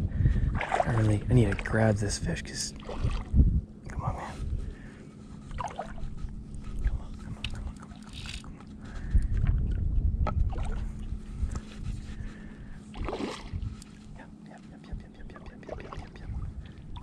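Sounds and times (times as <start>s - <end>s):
faint hum: 0.0s - 17.0s
wind rumbling on microphone: 0.0s - 17.0s
shallow water sloshing: 0.3s - 3.6s, 4.6s - 14.4s, 15.3s - 17.0s.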